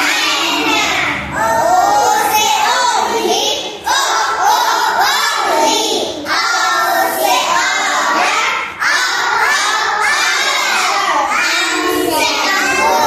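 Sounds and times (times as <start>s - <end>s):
children chanting in unison: 0.0s - 13.0s.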